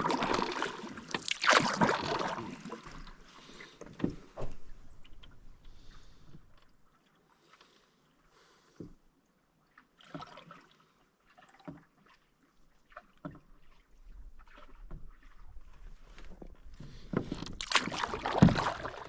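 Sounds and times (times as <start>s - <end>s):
canoe paddle splashing: 0.0s - 9.0s, 9.6s - 19.0s.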